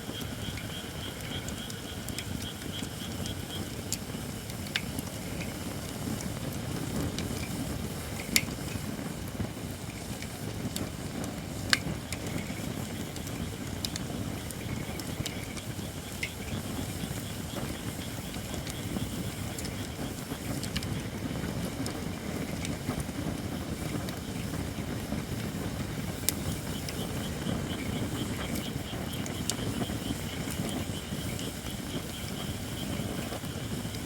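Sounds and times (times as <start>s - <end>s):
fire crackling pops: 0.0s - 34.0s
wood fire flame rushing: 0.0s - 34.0s.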